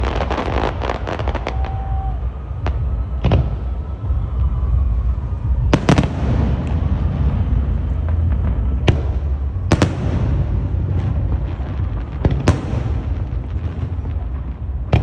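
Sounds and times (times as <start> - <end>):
fireworks crackling and booming: 0.0 - 15.0
low rumble: 0.0 - 15.0.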